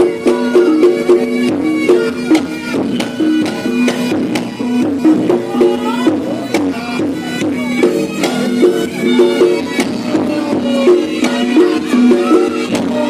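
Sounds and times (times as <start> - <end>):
drum strokes: 0.0 - 13.0
shawm playing gliding melody: 0.0 - 13.0.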